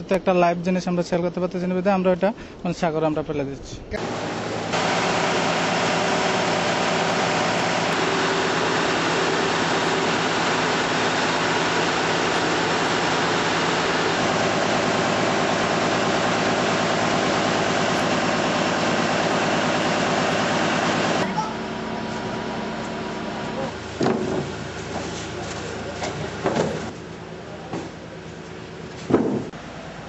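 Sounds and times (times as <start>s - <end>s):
machinery droning: 4.0s - 30.0s.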